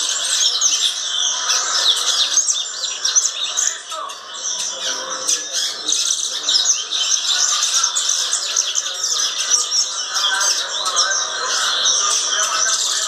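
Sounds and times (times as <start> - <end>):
bird singing rapid chirps: 0.0 - 13.0.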